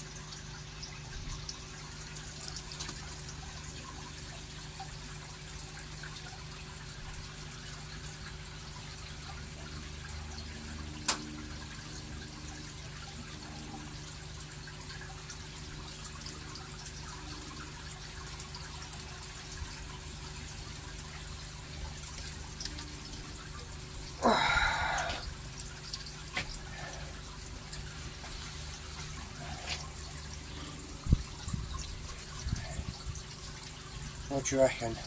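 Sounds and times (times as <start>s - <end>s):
water trickling and dripping: 0.0s - 35.0s
steady low hum: 0.2s - 35.0s.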